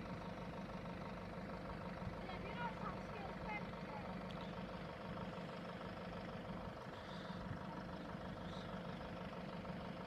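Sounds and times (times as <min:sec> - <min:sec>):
vehicle engines idling: 0:00.0 - 0:10.0.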